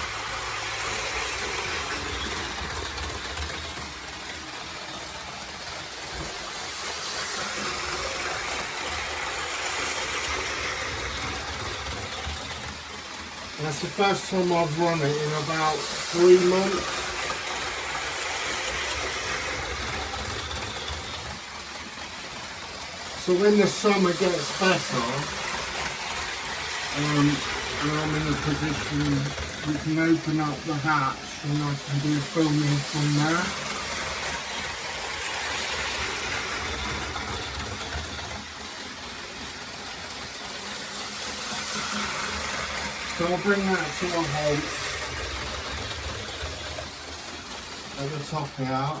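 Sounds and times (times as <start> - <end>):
model train running on track: 0.0 - 49.0.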